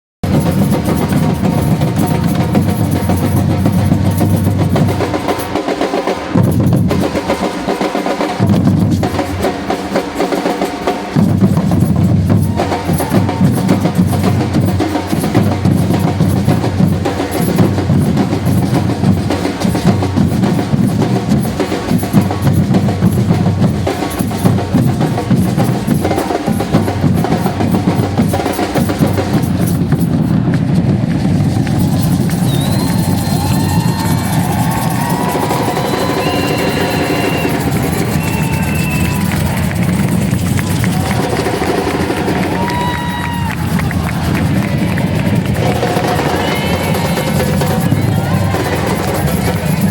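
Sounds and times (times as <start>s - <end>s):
bass drums: 0.2s - 5.6s, 6.2s - 7.4s, 8.3s - 9.7s, 11.2s - 49.9s
snare drum rolls: 0.2s - 49.9s.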